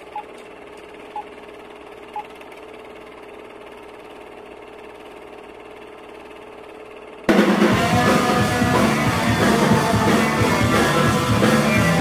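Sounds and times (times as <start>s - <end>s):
film projector whirring rattle: 0.0s - 12.0s.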